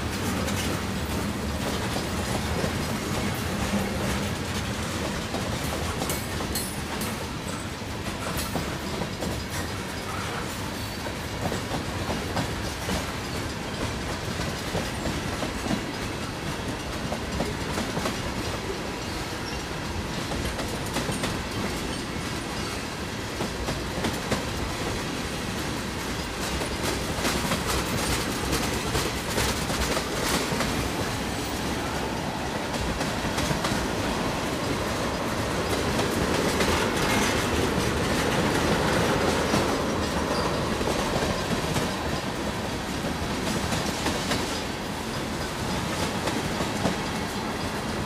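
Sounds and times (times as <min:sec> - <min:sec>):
freight train rumble: 0:00.0 - 0:48.0
wheels clicking over rail joints: 0:00.0 - 0:48.0.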